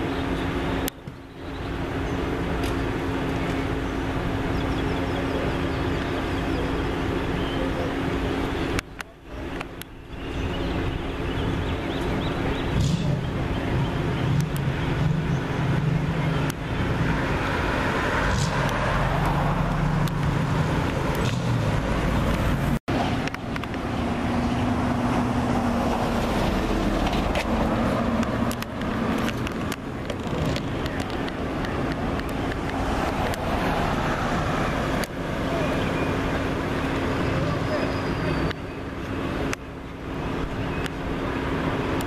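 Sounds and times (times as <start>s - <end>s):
car engines humming: 0.0s - 42.0s
road noise: 0.0s - 42.0s.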